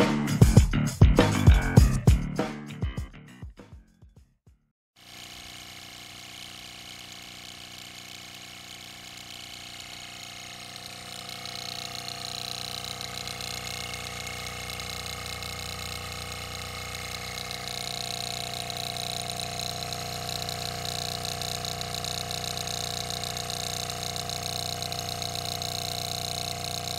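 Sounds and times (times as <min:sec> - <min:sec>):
linear motor humming: 0:05.0 - 0:26.9.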